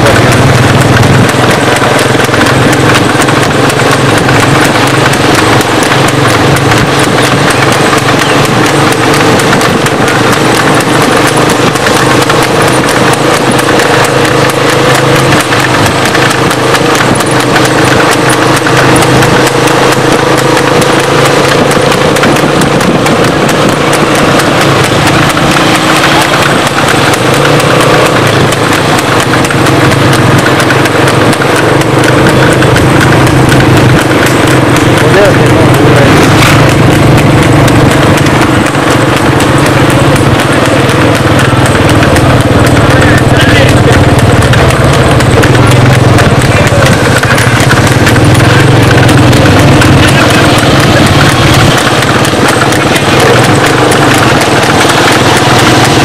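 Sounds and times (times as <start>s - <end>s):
horse hooves clip-clopping: 0.0s - 56.0s.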